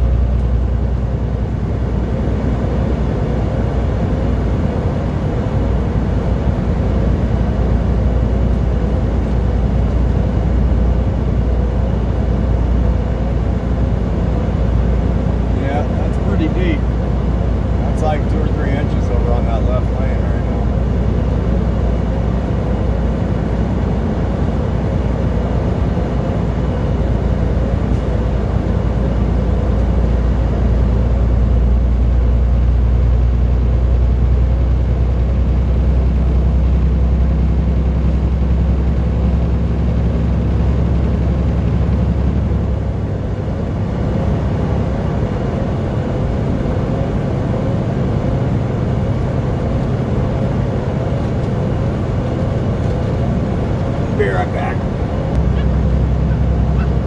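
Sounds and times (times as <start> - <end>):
road noise: 0.0 - 57.0
vehicle engine drone: 0.0 - 57.0.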